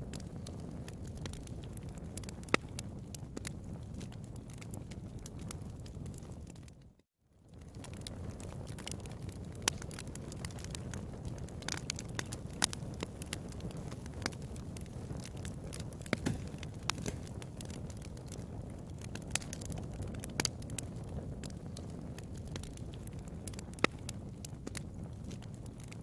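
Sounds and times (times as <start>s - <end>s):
fire popping and snapping: 0.0s - 26.0s
wood fire crackling: 0.0s - 26.0s.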